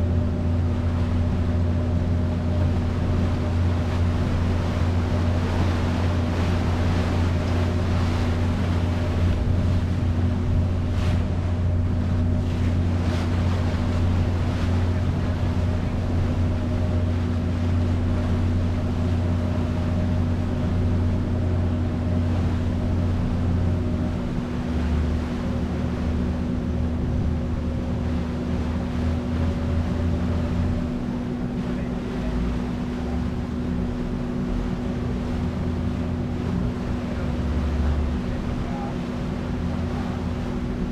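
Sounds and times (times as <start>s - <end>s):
ferry engine humming: 0.0s - 40.9s
rushing water: 0.0s - 40.9s.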